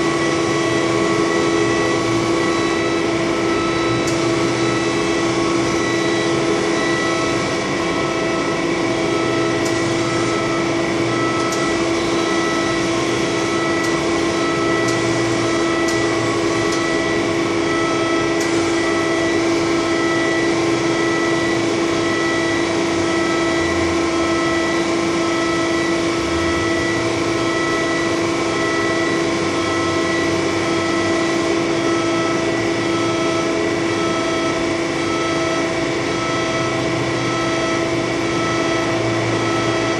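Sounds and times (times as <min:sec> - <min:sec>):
power unit droning hum: 0:00.0 - 0:39.9.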